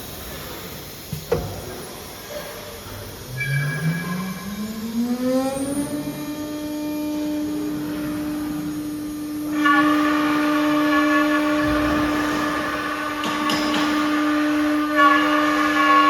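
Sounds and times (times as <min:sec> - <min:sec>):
router spindle whine: 0:01.0 - 0:16.0.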